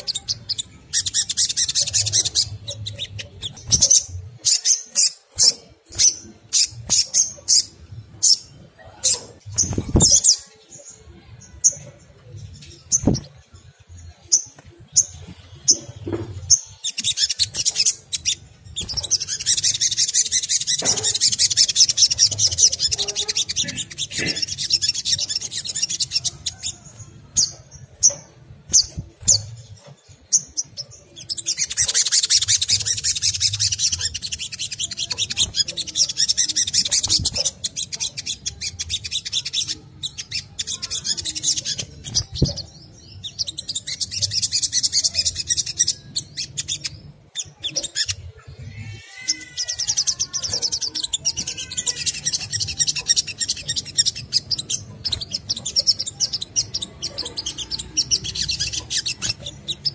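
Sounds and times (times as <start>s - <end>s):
bird chirping and trilling: 0.0s - 59.9s.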